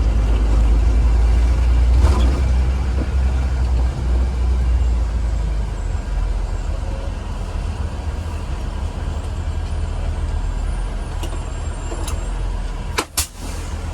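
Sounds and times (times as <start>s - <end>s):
bus engine rumble: 0.0s - 13.9s
road noise: 0.0s - 13.9s.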